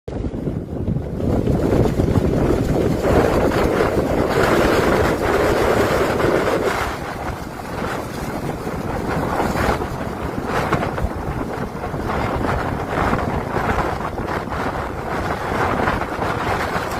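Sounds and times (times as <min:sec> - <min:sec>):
strong wind on microphone: 0:00.1 - 0:16.9.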